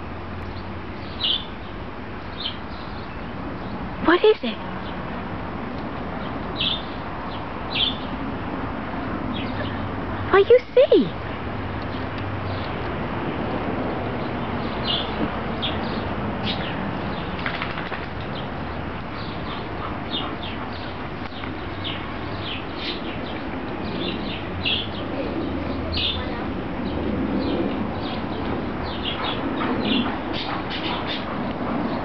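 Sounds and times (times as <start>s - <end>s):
steady rushing noise: 0.0s - 32.0s
small birds chirping: 0.4s - 5.0s, 6.0s - 8.2s, 9.2s - 12.9s, 14.2s - 32.0s.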